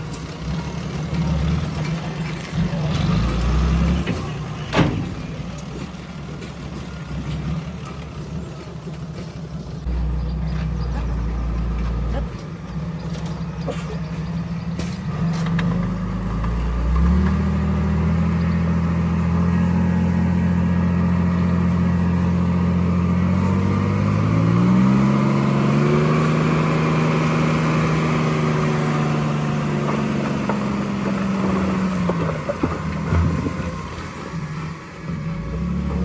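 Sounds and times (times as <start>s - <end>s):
bulldozer diesel engine revving: 0.0s - 36.0s.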